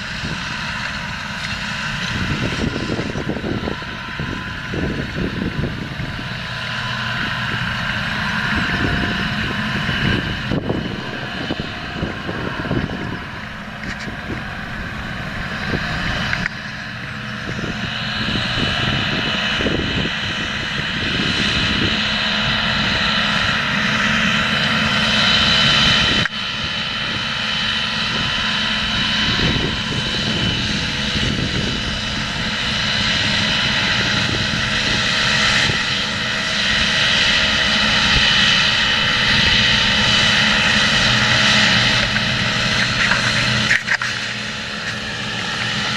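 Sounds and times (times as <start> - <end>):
thin high whine: 0.0 - 45.9
tractor diesel engine running: 0.0 - 45.9.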